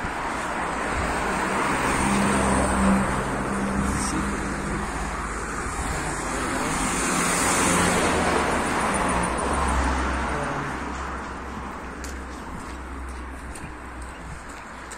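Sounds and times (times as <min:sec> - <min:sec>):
cars driving past: 0:00.0 - 0:14.9.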